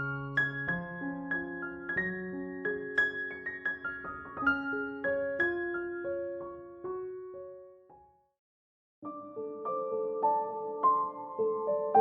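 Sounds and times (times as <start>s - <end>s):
gentle solo piano: 0.0s - 8.2s, 9.0s - 12.0s.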